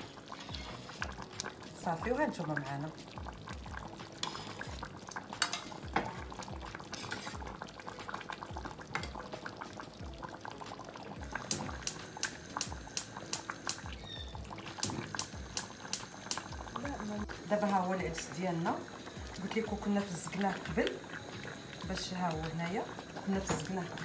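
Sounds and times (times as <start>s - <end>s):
broth being poured: 0.0s - 24.0s
broth simmering and bubbling: 0.0s - 24.0s.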